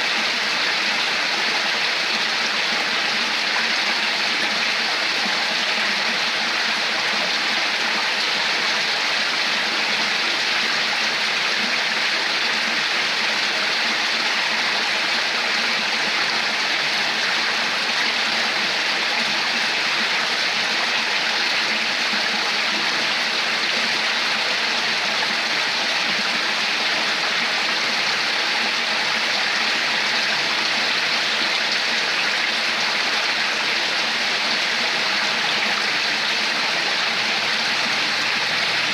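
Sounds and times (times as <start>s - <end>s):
running water splashing: 0.1s - 38.9s.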